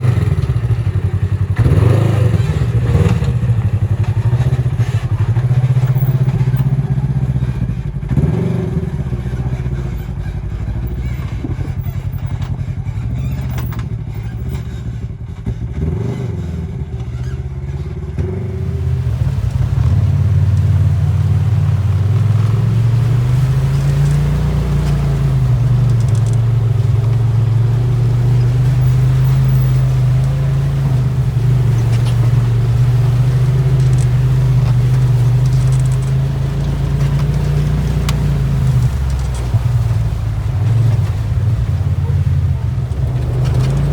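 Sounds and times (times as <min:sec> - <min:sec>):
clatter over rocks: 0:00.0 - 0:16.1, 0:16.9 - 0:43.9
off-road vehicle engine revving: 0:00.0 - 0:43.9.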